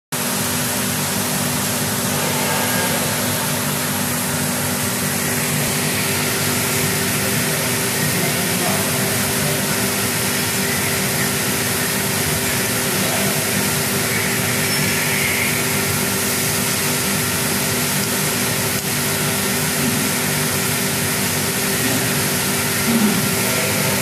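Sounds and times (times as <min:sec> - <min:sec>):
machine hum and hiss: 0:00.2 - 0:24.0.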